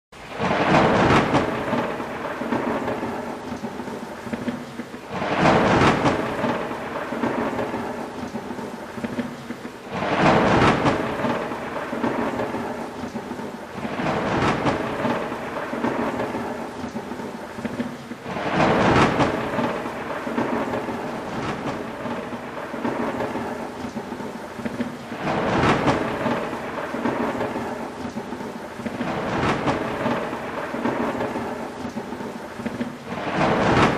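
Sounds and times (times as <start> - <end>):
continuous rain: 0.1 - 33.9
thunder rumbling: 0.2 - 33.9.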